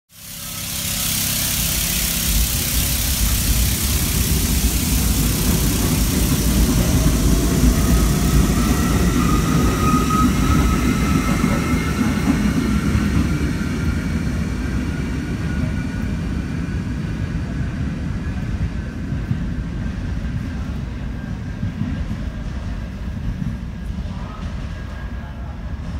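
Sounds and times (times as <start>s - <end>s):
rumble of wheels on rail: 0.1s - 25.9s
train hiss: 0.1s - 25.9s.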